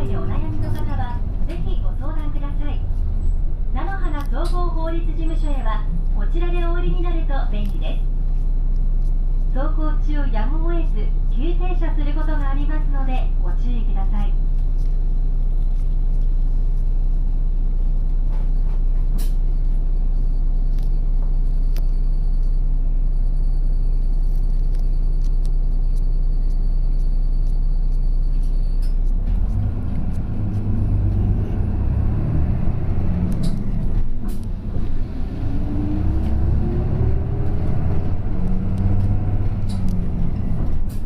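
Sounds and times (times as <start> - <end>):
bus diesel engine: 0.0 - 41.0
engine whine: 0.0 - 41.0.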